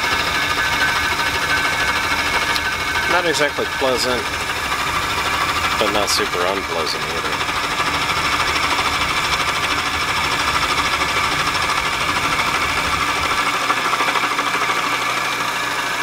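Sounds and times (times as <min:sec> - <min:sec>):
machine running hum: 0:00.0 - 0:16.0
milling cutter cutting: 0:00.0 - 0:16.0.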